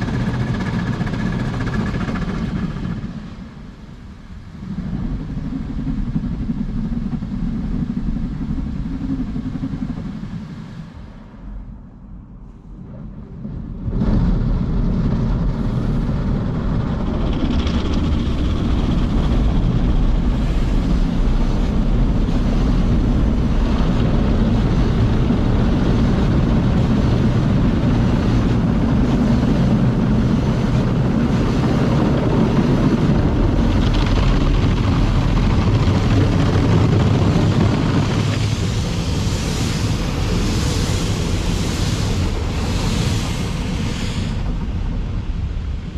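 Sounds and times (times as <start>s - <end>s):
car wash machine rumbling: 0.0s - 45.9s.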